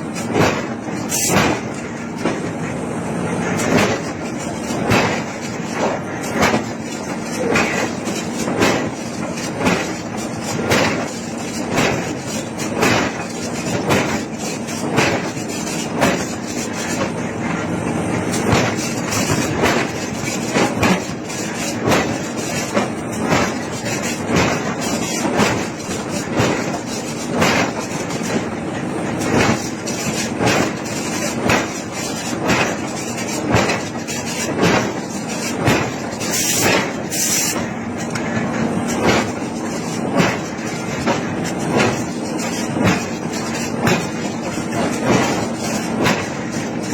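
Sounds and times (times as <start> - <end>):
constant machine hum: 0.0 - 46.9.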